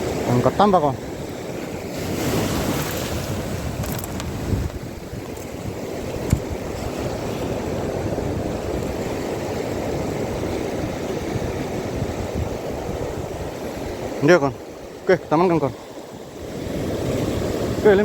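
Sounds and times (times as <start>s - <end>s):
sea water: 0.0s - 18.0s
wind: 0.0s - 18.0s.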